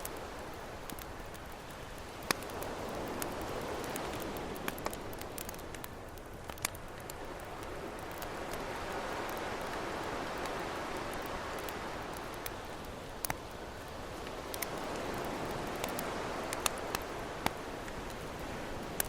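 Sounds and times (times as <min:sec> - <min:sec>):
campfire crackling and popping: 0:00.0 - 0:19.0
ocean waves: 0:00.0 - 0:19.0.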